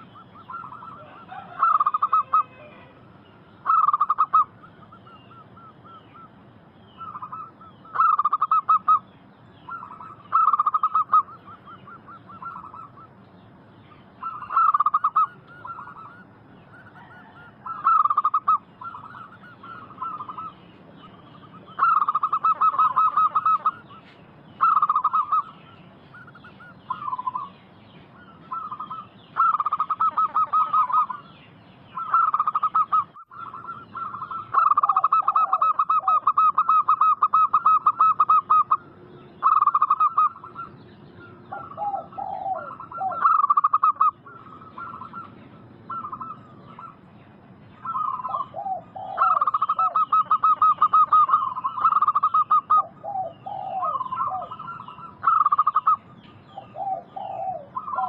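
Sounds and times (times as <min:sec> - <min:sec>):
doves cooing in trills: 0:00.0 - 0:31.3, 0:31.9 - 0:58.0.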